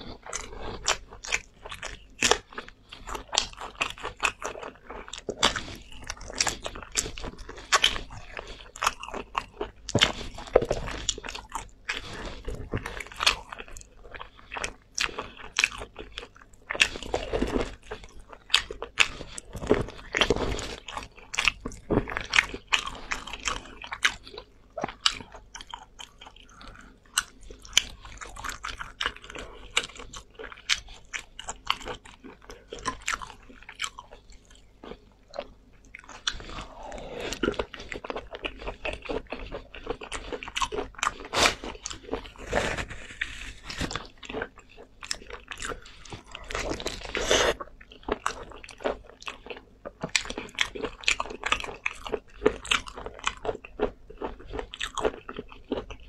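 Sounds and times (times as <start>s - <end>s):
chewing meat on the bone: 0.0s - 56.0s.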